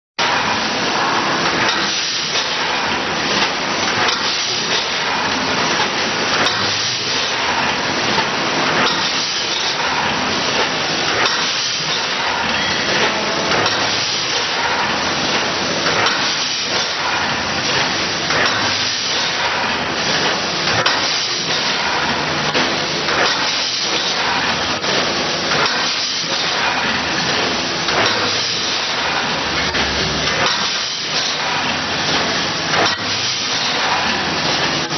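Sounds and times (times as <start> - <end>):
machine knocks and clatter: 0.2 - 34.9
packaging machine hiss: 0.2 - 34.9.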